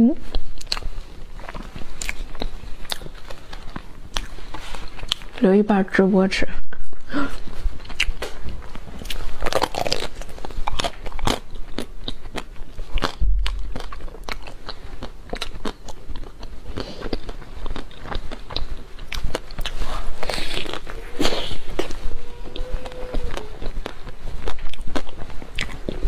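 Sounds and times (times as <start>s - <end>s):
close-up chewing: 0.2s - 5.4s, 7.3s - 26.0s.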